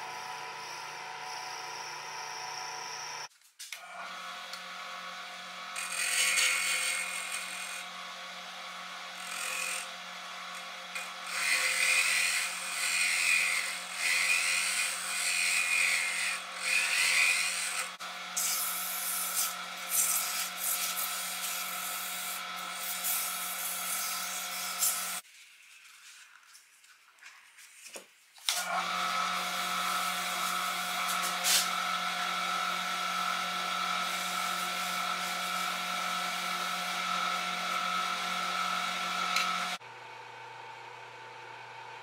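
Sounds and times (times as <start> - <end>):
chisel cutting spinning wood: 0.0 - 3.3, 4.0 - 25.2, 28.6 - 39.9
lathe motor hum: 0.0 - 3.3, 4.1 - 25.2, 28.6 - 42.0.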